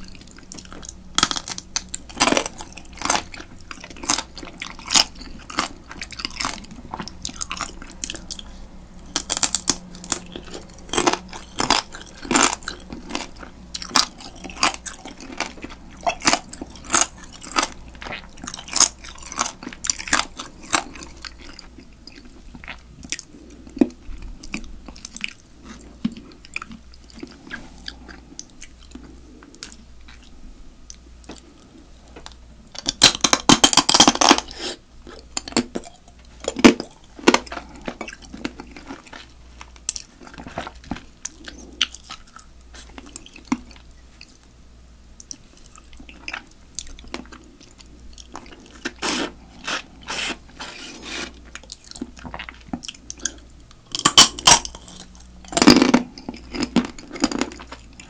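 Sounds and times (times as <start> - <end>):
teeth crunching crab shells: 0.0 - 31.6, 32.2 - 43.9, 45.2 - 58.0
wet chewing: 0.0 - 44.5, 45.2 - 58.0.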